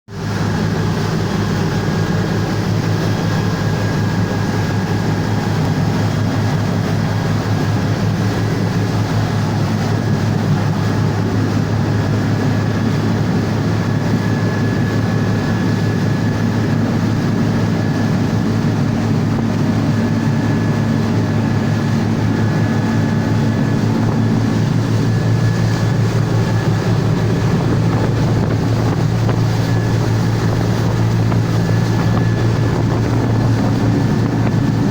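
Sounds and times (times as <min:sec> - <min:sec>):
boat diesel engine drone: 0:00.1 - 0:34.9.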